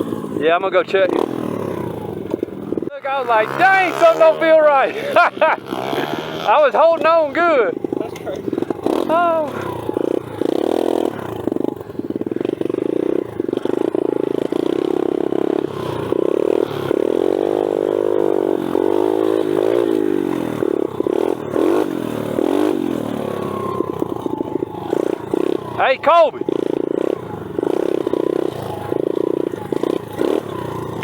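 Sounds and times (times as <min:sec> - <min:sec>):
pit bike engine revving: 0:00.0 - 0:31.0.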